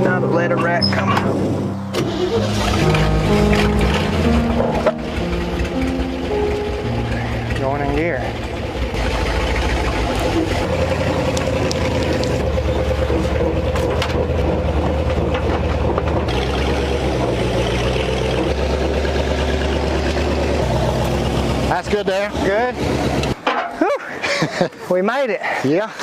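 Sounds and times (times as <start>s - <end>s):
truck engine running: 0.0s - 23.4s.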